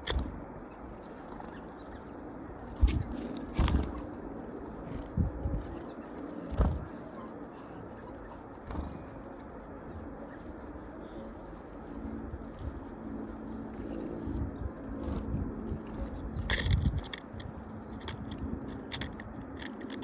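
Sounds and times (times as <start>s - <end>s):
birds pecking and scuffling: 0.0s - 20.0s.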